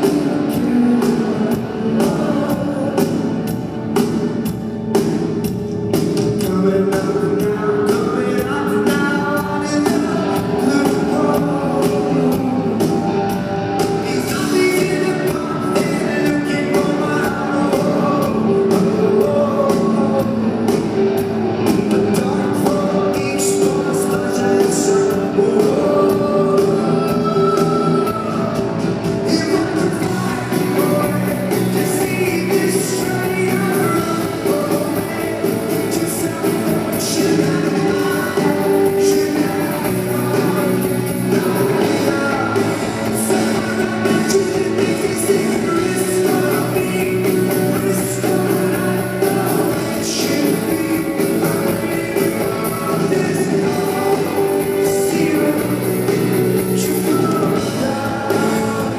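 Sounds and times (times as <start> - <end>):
person singing: 0.0 - 58.9
rock band playing live: 0.0 - 58.9.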